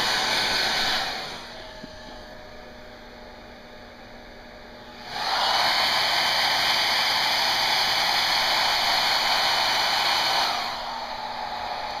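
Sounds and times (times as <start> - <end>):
hairdryer blowing: 0.0 - 12.0.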